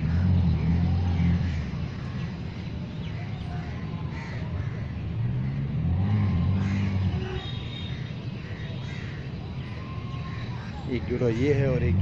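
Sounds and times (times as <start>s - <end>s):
faint bird calls: 0.0s - 11.9s.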